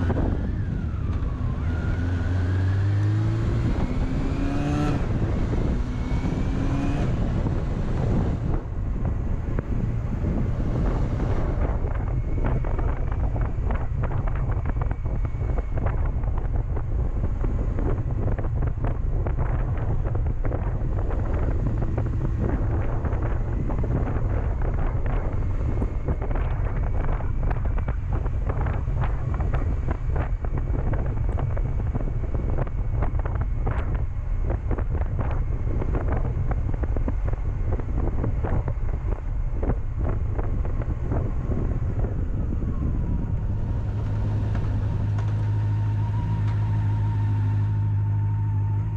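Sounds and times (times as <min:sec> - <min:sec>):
motorcycle engine running: 0:00.0 - 0:48.9
wind buffeting microphone: 0:00.0 - 0:48.9.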